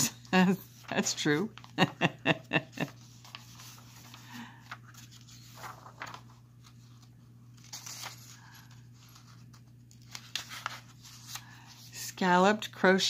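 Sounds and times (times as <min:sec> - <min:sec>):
low steady hum: 0:00.0 - 0:13.0
paper pages rustling: 0:00.1 - 0:12.0.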